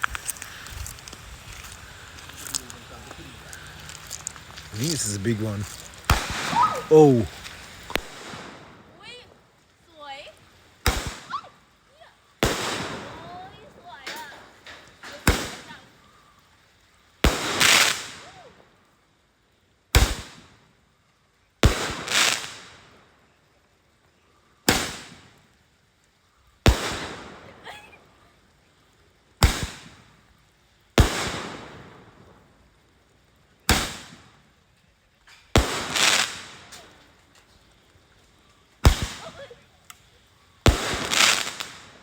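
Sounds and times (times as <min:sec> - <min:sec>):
firework hiss: 0:00.0 - 0:42.0.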